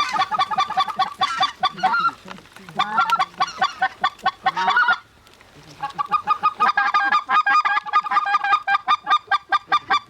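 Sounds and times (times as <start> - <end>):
geese honking: 0.0 - 10.0.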